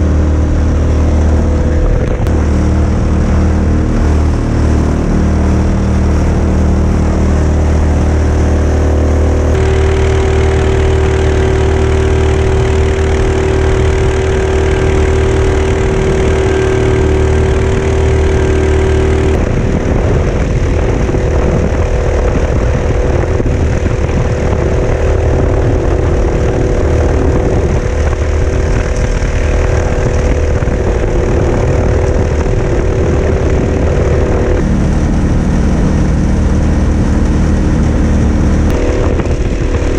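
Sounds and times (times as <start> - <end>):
kayak engine running: 0.0 - 39.9.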